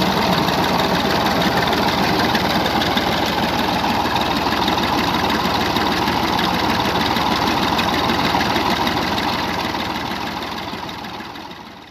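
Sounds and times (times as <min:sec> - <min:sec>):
tractor engine running steadily: 0:00.0 - 0:11.9.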